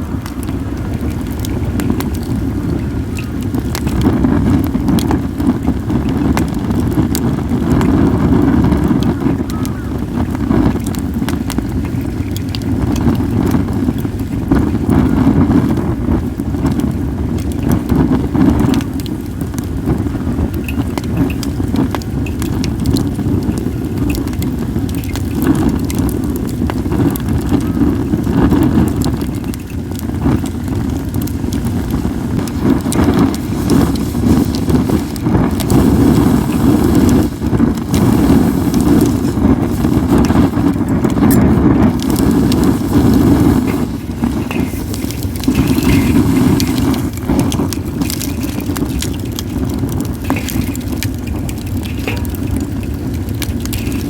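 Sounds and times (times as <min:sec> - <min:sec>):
wind buffeting microphone: 0:00.0 - 0:54.0
wood fire crackling: 0:00.0 - 0:54.0.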